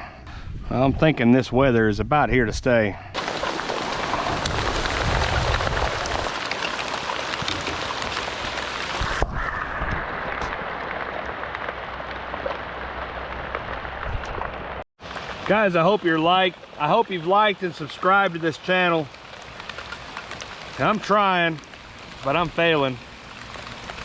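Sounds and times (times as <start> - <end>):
heavy rain falling: 3.2 - 24.0.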